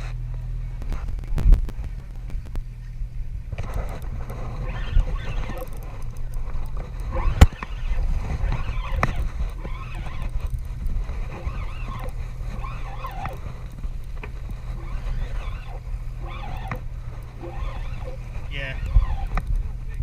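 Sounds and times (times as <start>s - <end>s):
fishing boat engine rumble: 0.0s - 20.0s.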